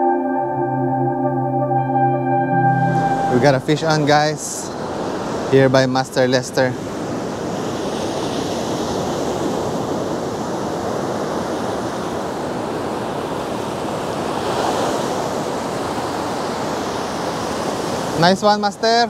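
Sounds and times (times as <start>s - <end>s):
ocean surf breaking on beach: 2.8s - 19.0s.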